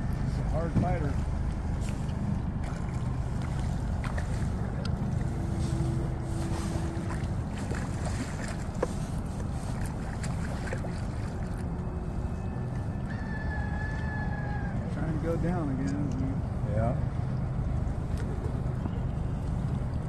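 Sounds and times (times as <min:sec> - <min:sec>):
boat motor rumbling: 0:00.0 - 0:20.0.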